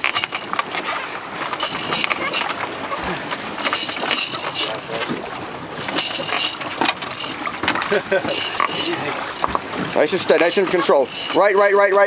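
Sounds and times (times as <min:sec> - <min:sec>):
sea noise: 0:00.0 - 0:12.0
wind buffeting microphone: 0:00.0 - 0:12.0.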